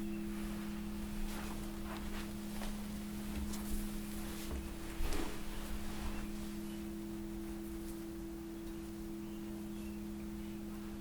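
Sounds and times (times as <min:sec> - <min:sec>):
sustained ringing tones: 0:00.0 - 0:11.0.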